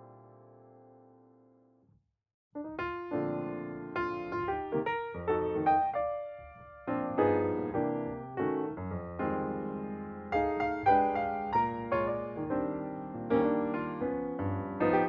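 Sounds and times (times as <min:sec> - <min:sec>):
piano music: 0:02.6 - 0:15.0.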